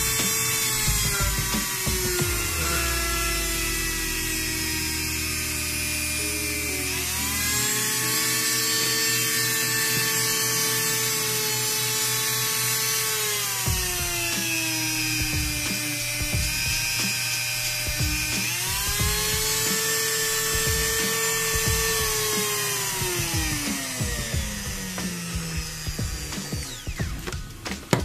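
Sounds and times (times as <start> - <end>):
rotary tool whining: 0.0 - 28.0.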